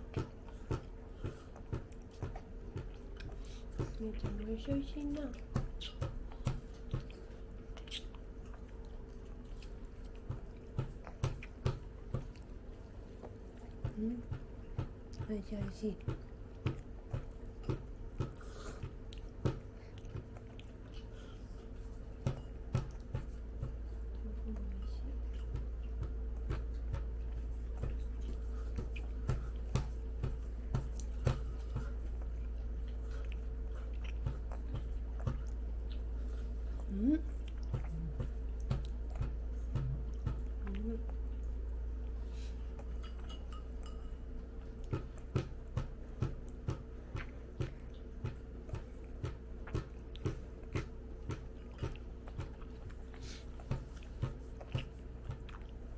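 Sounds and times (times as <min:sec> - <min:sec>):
chewing and mouth smacks: 0:00.0 - 0:15.2, 0:16.0 - 0:55.9
faint steady hum: 0:00.0 - 0:55.9.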